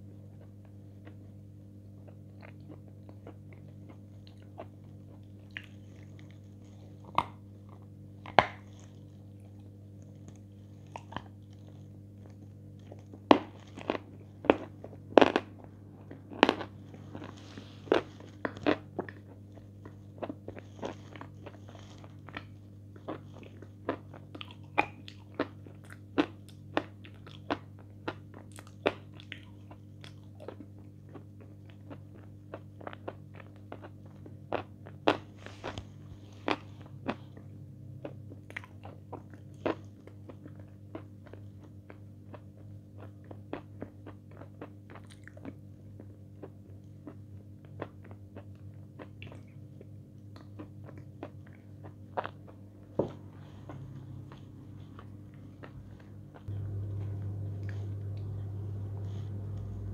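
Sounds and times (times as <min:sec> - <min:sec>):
crunching and chewing: 0:00.0 - 0:59.7.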